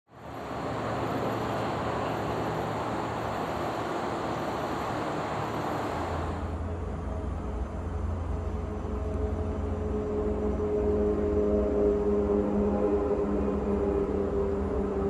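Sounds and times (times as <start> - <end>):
low steady hum: 0.1 - 15.0
rushing outdoor background noise: 0.1 - 15.0.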